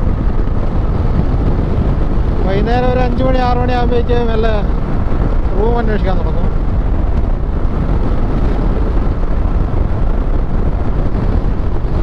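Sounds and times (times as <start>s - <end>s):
road noise rumble: 0.0s - 12.0s
wind rush on microphone: 0.0s - 12.0s.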